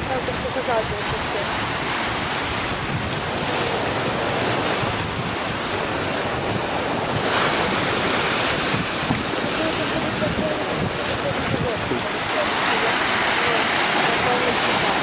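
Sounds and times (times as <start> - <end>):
surf waves breaking: 0.0 - 15.0
wind buffeting microphone: 0.0 - 15.0.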